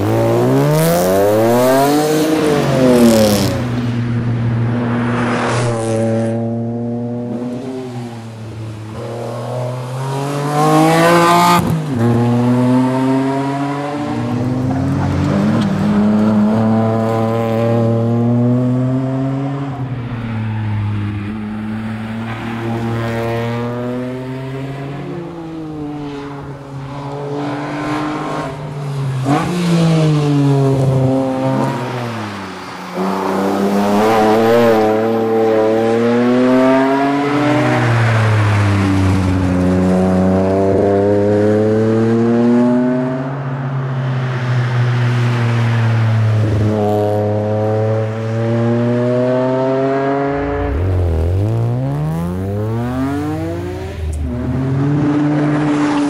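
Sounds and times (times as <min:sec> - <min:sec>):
car engine at full throttle: 0:00.0 - 0:43.9, 0:45.4 - 0:56.0.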